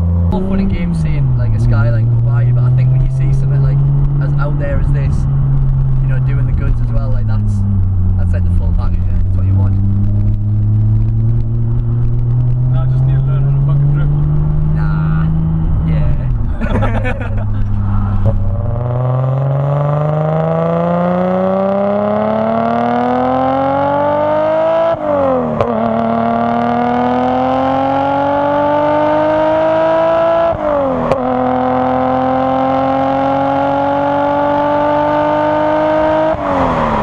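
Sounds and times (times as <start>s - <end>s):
car engine accelerating through gears: 0.0s - 37.0s.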